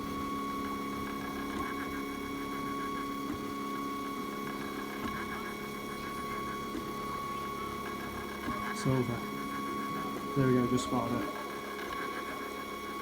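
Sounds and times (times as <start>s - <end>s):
three d printer motors whining: 0.0s - 13.0s.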